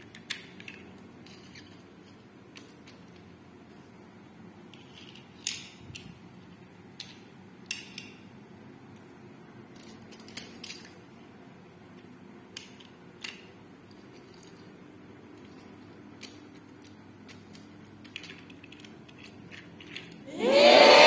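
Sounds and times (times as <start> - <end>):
faint background hum: 0.0 - 21.0.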